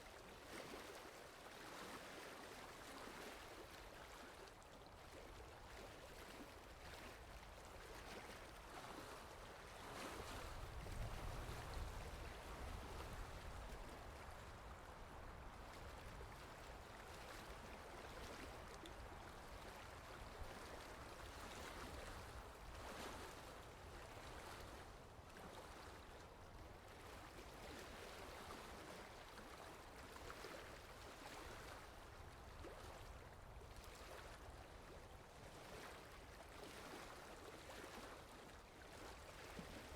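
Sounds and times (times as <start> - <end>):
lake water lapping: 0.0 - 39.9.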